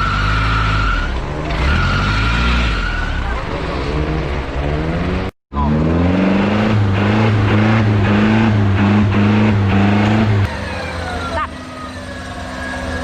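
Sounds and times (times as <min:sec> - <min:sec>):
engine revving hard: 0:00.0 - 0:10.8.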